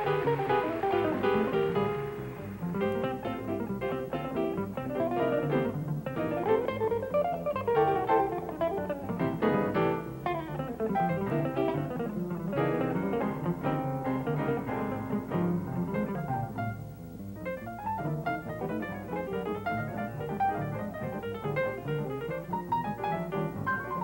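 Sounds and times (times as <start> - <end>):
double bass: 0.0 - 24.0
electric guitar jazz lines: 0.0 - 24.0
piano: 0.0 - 24.0.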